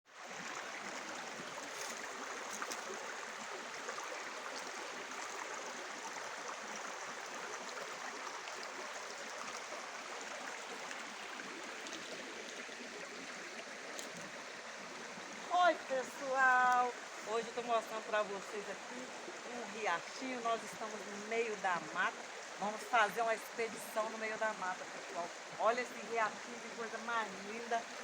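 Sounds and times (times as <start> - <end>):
stream babbling: 0.1 - 28.0.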